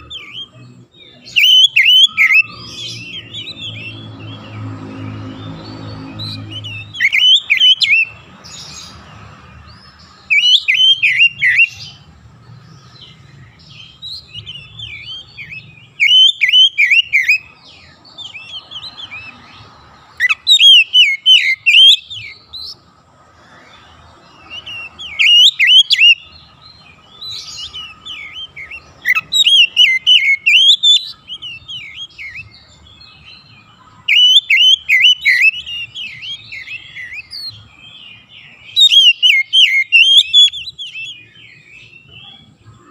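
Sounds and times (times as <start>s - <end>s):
bird singing sweeping notes: 0.0s - 42.9s.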